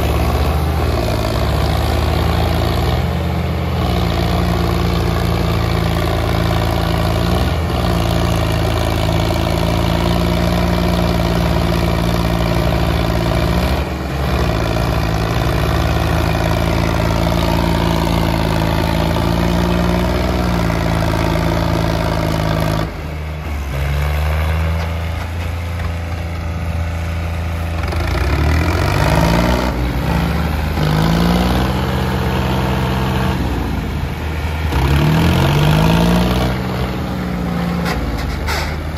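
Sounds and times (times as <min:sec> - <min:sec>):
diesel tractor engines under load: 0:00.0 - 0:38.9.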